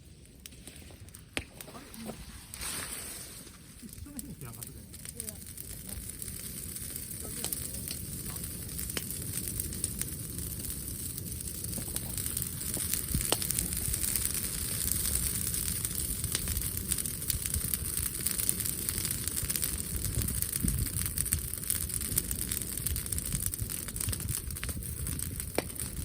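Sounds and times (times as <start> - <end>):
bonfire crackling: 0.0 - 26.0
burning wood popping: 0.0 - 26.0.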